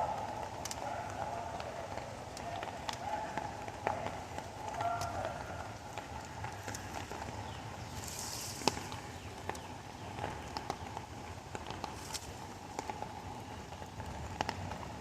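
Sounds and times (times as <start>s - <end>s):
raindrops tapping close by: 0.0s - 15.0s
steady rain: 0.0s - 15.0s.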